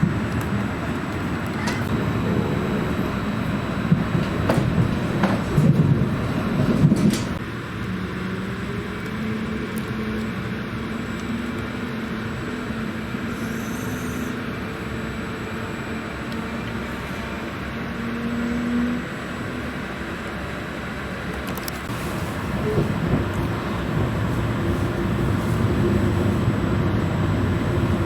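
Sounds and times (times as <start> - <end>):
train rumbling along track: 0.0 - 28.0.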